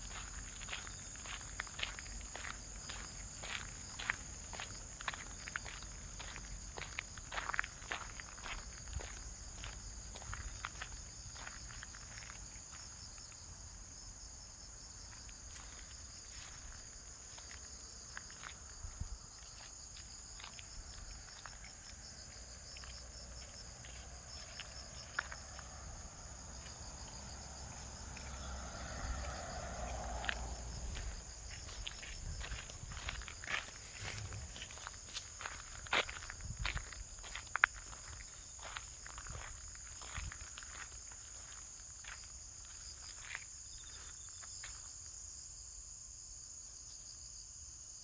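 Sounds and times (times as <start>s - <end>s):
light footsteps: 0.0s - 13.4s, 15.1s - 44.8s
insects trilling: 0.0s - 48.0s.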